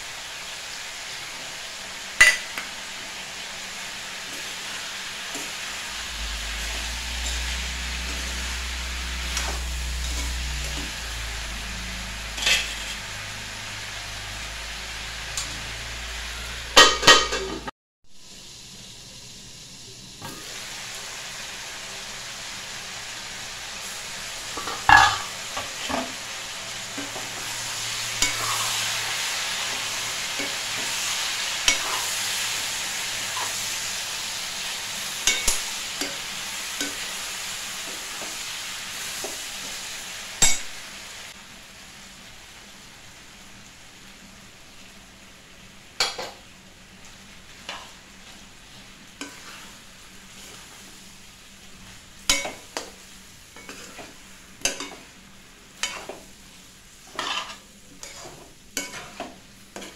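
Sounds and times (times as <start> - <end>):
papaya sizzling in pan: 0.0 - 59.9.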